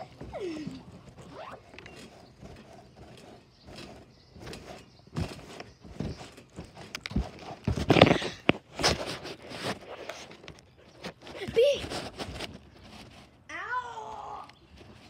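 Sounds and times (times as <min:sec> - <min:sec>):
thuds of bouncing on trampoline: 0:00.0 - 0:13.2.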